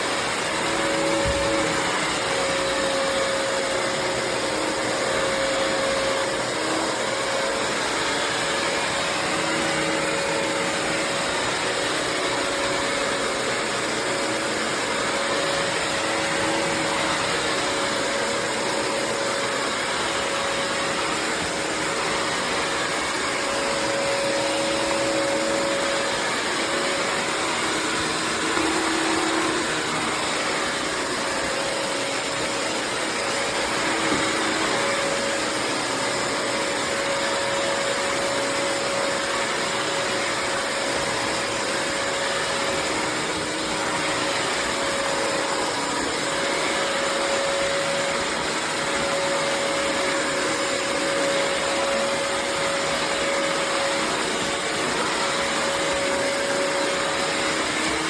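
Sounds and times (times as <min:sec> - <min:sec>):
wet-dry vacuum whining: 0:00.0 - 0:58.0.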